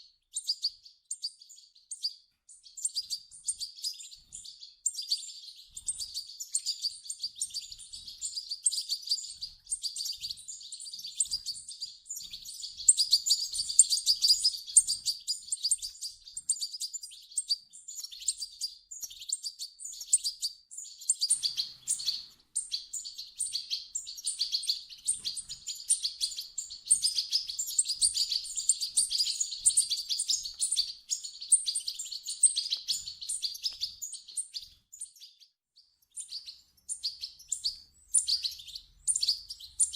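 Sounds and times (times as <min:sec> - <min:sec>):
chicks chirping rapidly: 0:00.4 - 0:35.4, 0:36.1 - 0:39.9.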